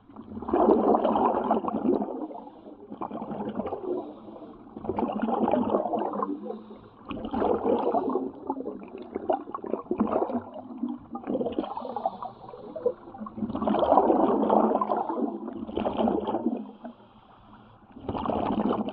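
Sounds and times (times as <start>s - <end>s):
air bubbles gurgling underwater: 0.0s - 17.0s, 17.9s - 18.9s.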